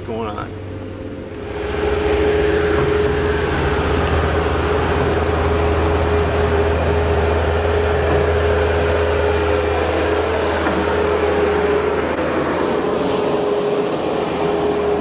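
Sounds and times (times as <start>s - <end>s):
diesel loader engine running: 0.0s - 15.0s
steady whine: 0.0s - 15.0s.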